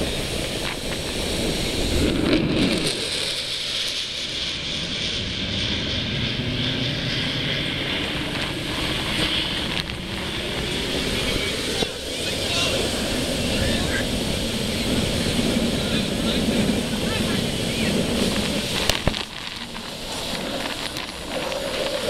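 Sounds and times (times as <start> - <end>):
wind gusting over microphone: 0.0 - 22.0.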